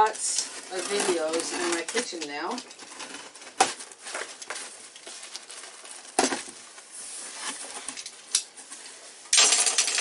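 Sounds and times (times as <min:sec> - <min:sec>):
packing material rustling: 0:00.0 - 0:09.1.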